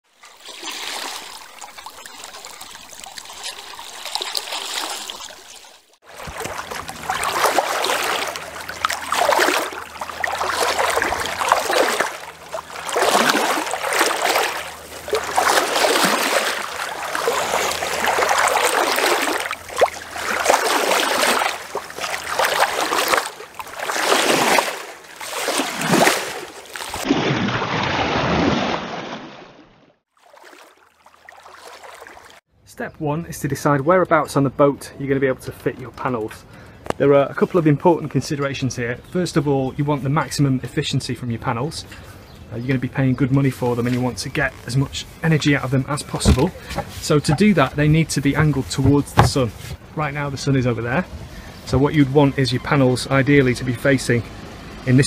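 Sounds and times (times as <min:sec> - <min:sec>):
water splashing along boat hull: 0:00.0 - 0:32.5, 0:35.2 - 0:55.0.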